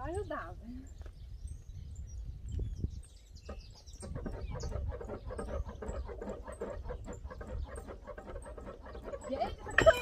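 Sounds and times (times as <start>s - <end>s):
birds chirping: 0.0s - 10.0s
wind rumble on microphone: 0.0s - 10.0s.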